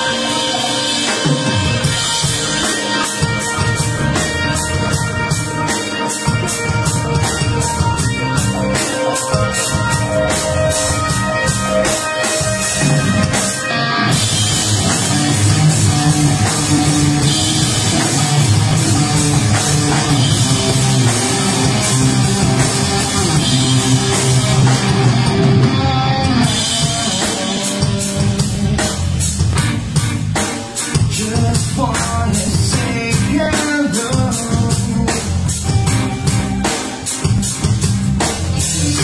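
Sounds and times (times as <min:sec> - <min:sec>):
electric guitar notes: 0:00.0 - 0:39.0
full rock band playing: 0:00.0 - 0:39.0
steady drum beat: 0:00.0 - 0:39.0.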